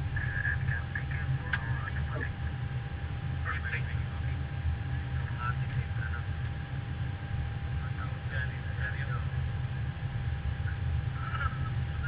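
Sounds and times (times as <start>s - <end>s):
faint muffled voices: 0.0s - 2.6s, 3.3s - 6.9s, 7.6s - 10.0s, 10.6s - 12.0s
airplane cabin rumble and hum: 0.0s - 12.0s.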